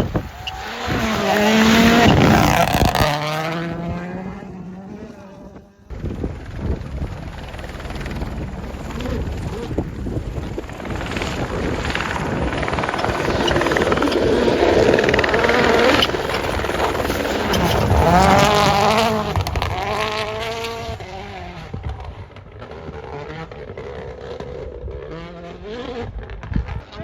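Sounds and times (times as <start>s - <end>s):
rally car passing at speed: 0.0s - 26.1s.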